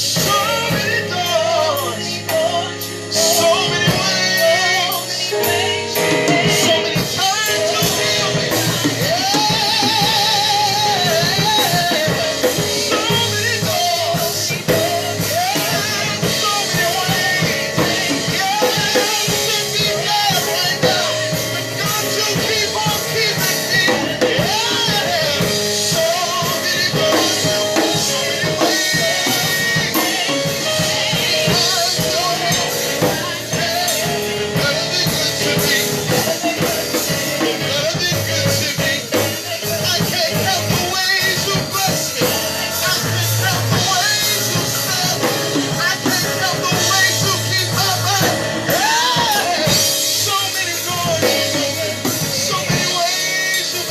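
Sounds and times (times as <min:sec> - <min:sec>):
band with drums and keyboards: 0:00.0 - 0:53.9
person singing with vibrato: 0:00.0 - 0:53.9.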